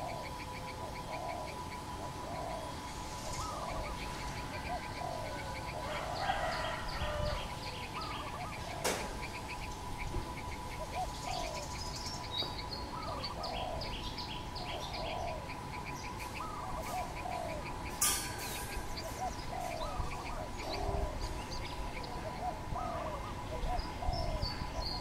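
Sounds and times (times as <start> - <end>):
birds chirping rapidly: 0.0 - 25.0
dove cooing: 0.0 - 25.0.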